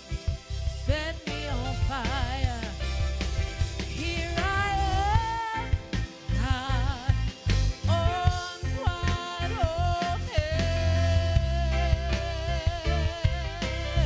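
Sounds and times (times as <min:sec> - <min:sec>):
gospel band playing: 0:00.0 - 0:14.0.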